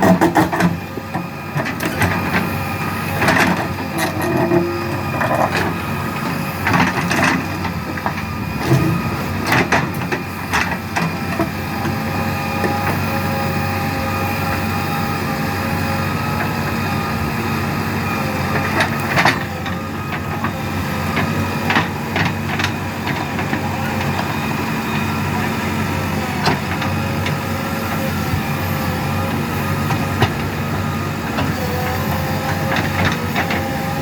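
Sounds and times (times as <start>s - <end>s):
backhoe diesel engine running: 0.0s - 34.0s.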